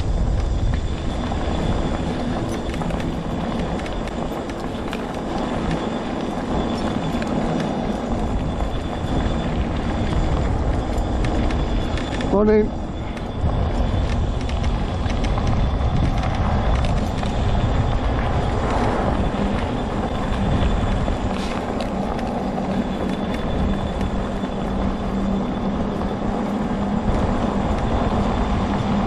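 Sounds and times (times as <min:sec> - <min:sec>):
electric motor whine: 0:00.0 - 0:29.0
rumble of the ride: 0:00.0 - 0:29.0.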